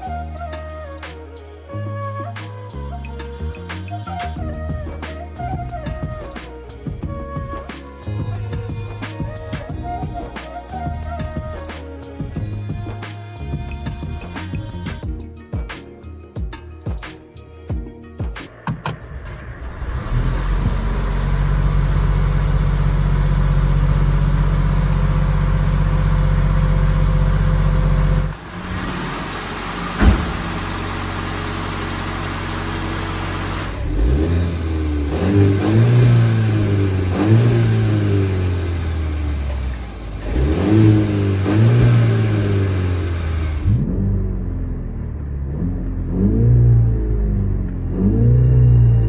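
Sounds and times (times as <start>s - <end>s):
car engine idling and revving: 0.0s - 1.0s, 2.0s - 17.1s, 17.8s - 49.0s.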